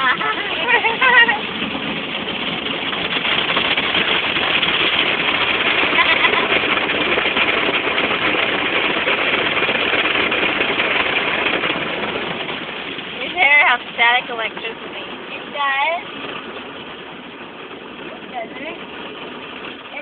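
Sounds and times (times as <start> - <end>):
car wash equipment rushing: 0.0 - 20.0.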